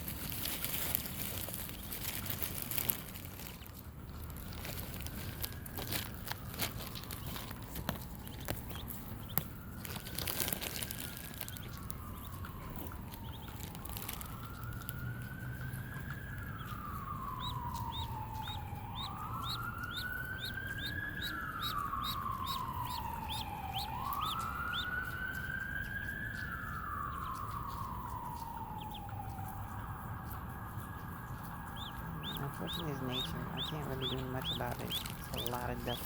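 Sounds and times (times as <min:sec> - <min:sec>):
ducklings peeping: 0:00.0 - 0:25.6, 0:26.3 - 0:29.6, 0:31.4 - 0:36.0
emergency siren wailing: 0:01.6 - 0:36.0.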